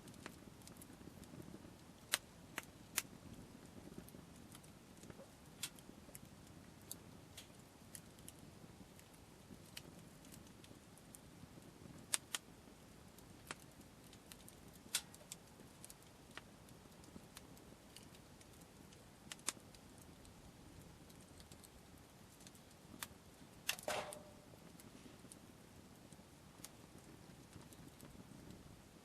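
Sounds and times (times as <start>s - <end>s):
sharp fire pops: 0.0s - 12.6s, 13.2s - 20.2s, 20.8s - 25.5s
campfire crackling: 0.0s - 29.0s.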